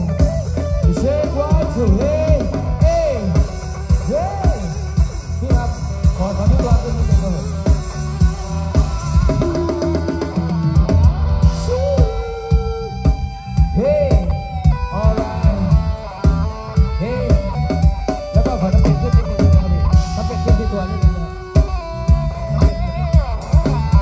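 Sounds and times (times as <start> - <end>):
drum kit beat: 0.0 - 24.0
live band playing: 0.0 - 24.0
sliding lead melody: 0.0 - 24.0.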